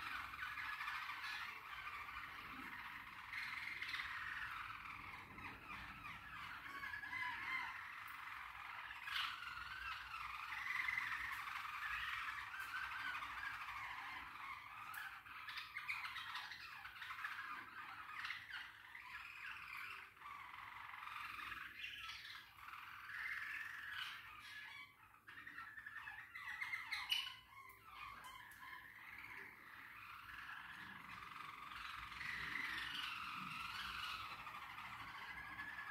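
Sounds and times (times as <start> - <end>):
finches singing and chirping: 0.0 - 35.9.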